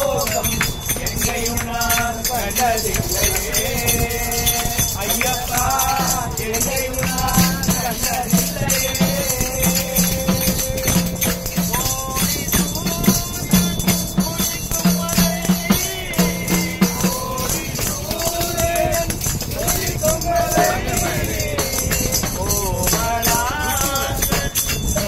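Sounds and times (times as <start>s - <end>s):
men singing devotional song: 0.0s - 25.0s
wooden clappers clicking: 0.0s - 25.0s.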